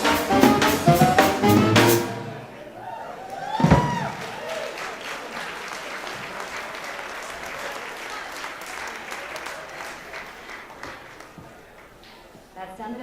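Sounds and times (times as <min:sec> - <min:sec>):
audience applauding and cheering: 0:00.0 - 0:11.4.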